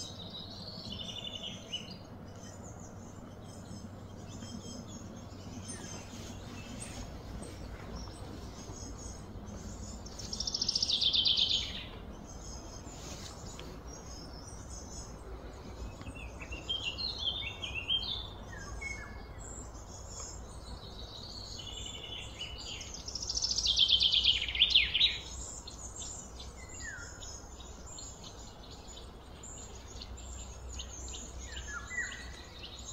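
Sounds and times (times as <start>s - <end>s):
bird chirps: 0.0s - 32.9s
birds singing trilled phrases: 0.0s - 32.9s
low background rumble: 0.0s - 32.9s.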